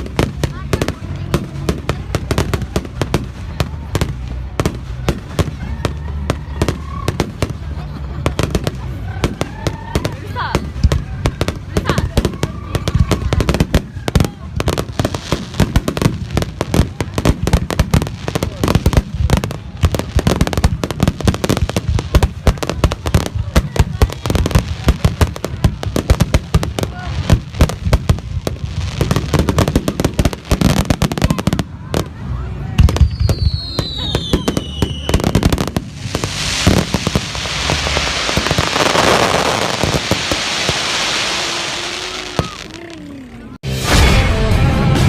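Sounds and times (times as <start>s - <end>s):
fireworks banging: 0.0s - 44.6s.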